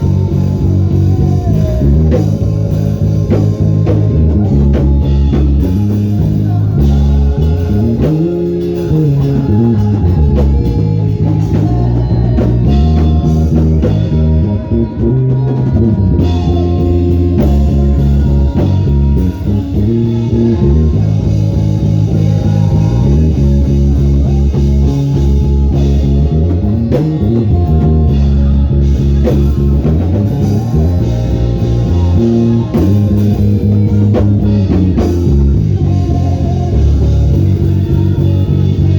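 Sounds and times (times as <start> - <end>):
instrumental band music: 0.0 - 38.9
sliding bass line: 0.0 - 38.9.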